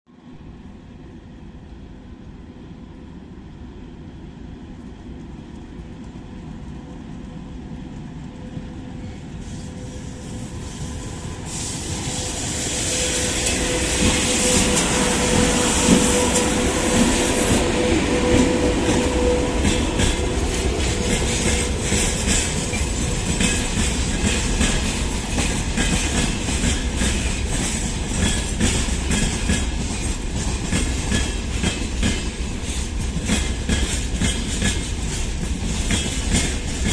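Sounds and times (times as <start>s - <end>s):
electric locomotive whine: 0.2s - 36.9s
train wheels clickety-clack: 4.6s - 36.9s.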